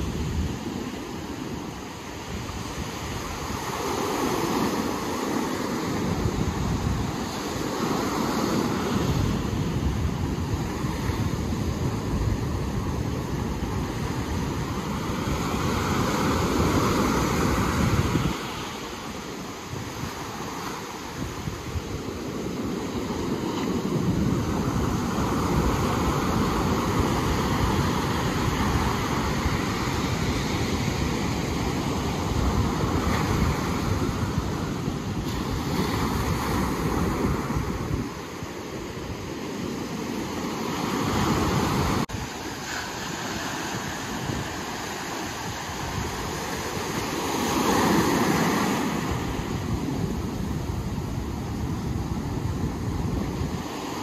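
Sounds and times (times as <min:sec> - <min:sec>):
ocean waves breaking: 0:00.0 - 0:54.0
wind rumbling on microphone: 0:00.0 - 0:54.0.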